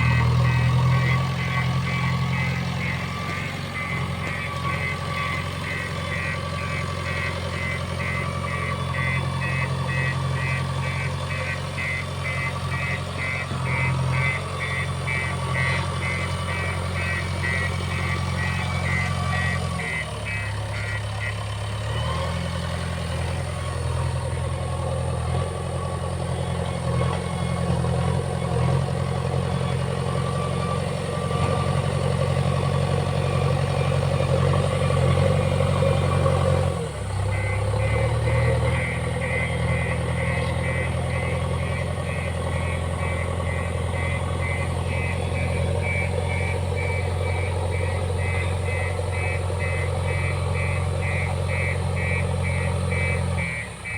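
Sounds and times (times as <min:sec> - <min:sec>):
diesel engine humming: 0:00.0 - 0:53.9.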